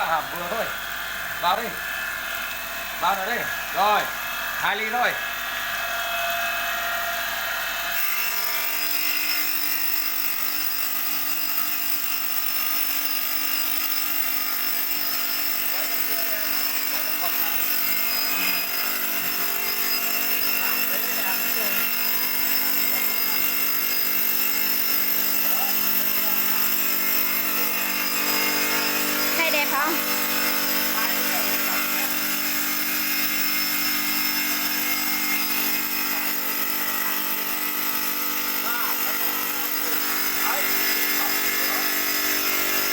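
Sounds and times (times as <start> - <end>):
stone cutting wheel grinding: 0.0 - 42.9.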